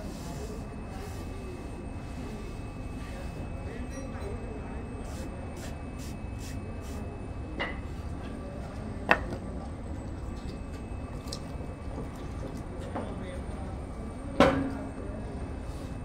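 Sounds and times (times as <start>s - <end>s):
workshop low rumble: 0.0s - 16.0s.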